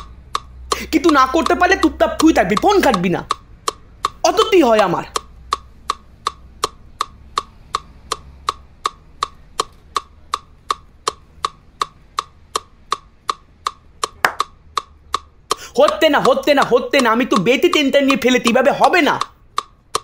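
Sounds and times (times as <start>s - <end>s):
clock ticking: 0.0s - 20.0s.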